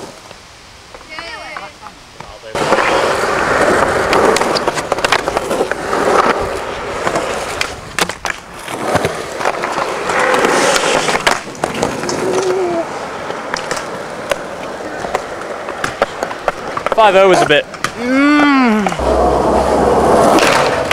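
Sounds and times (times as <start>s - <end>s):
skateboard wheels rolling: 0.0s - 20.9s
skateboard clacking on ground: 0.9s - 20.9s.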